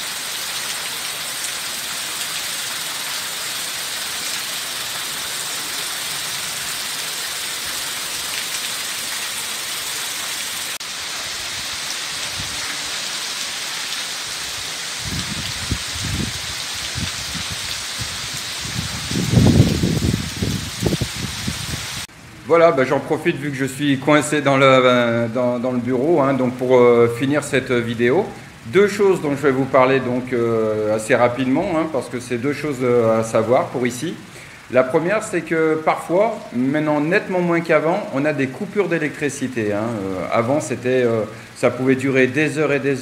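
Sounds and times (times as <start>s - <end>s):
heavy rain on paving and foliage: 0.0s - 43.0s.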